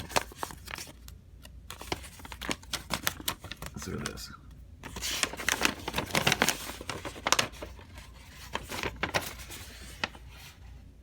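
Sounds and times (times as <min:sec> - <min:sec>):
paper rustling and crinkling: 0:00.0 - 0:04.2, 0:04.8 - 0:10.8.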